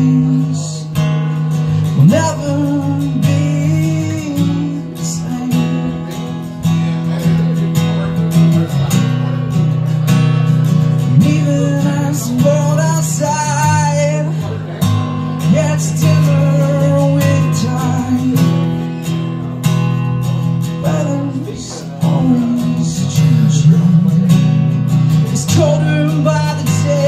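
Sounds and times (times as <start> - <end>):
man singing: 0.0 - 9.4, 10.6 - 27.0
acoustic guitar strumming: 0.0 - 27.0.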